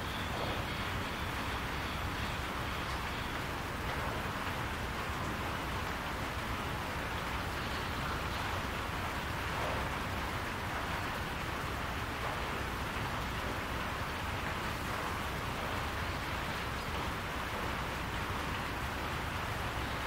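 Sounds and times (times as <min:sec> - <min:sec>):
rain on a barn roof: 0:00.0 - 0:20.0.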